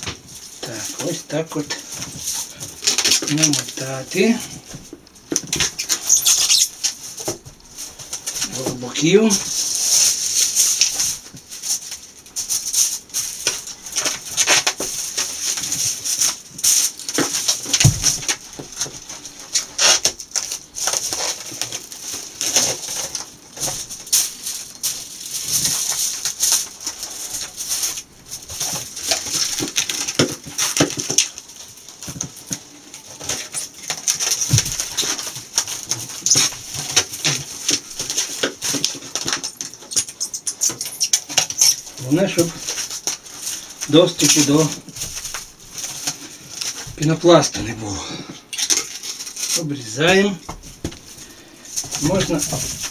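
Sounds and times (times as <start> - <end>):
aluminium foil crinkling: 0.0 - 52.9.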